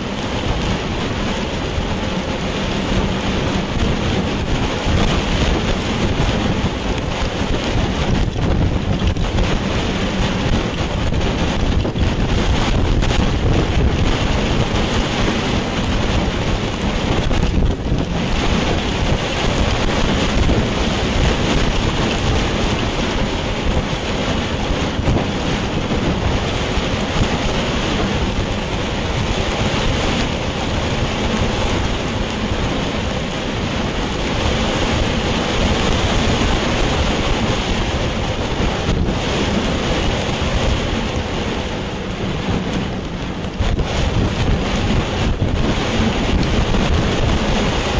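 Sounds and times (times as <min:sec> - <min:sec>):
heavy rain: 0:00.0 - 0:47.9
wind buffeting microphone: 0:00.0 - 0:47.9.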